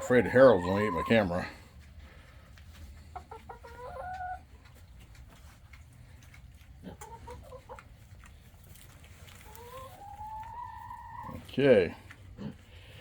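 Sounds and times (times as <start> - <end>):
hen clucks: 0.0 - 13.0
hens calling: 0.0 - 13.0.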